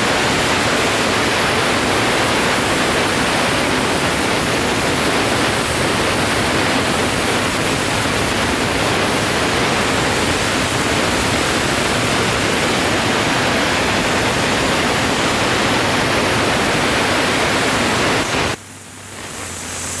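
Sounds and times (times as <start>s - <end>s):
cutting torch hissing: 0.0s - 20.0s
machine hum: 0.0s - 20.0s.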